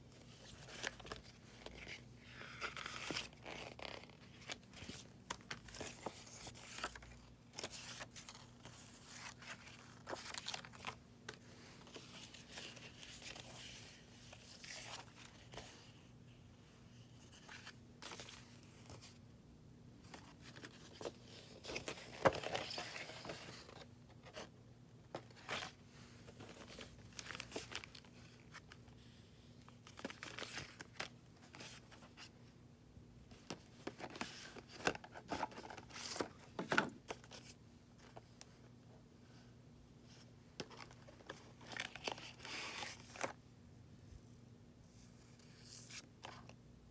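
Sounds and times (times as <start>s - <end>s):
paper pages rustling and crinkling: 0.2s - 16.0s, 17.0s - 19.2s, 20.0s - 24.5s, 25.1s - 32.3s, 33.3s - 38.6s, 40.1s - 43.4s.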